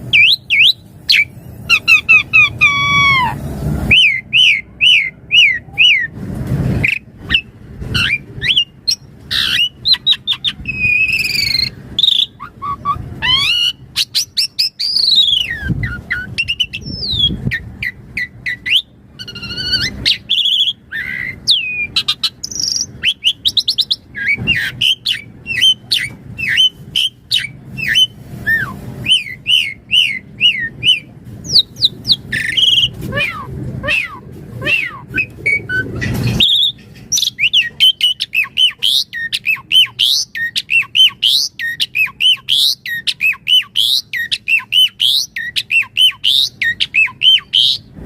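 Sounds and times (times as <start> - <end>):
starling singing: 0.0 - 47.9.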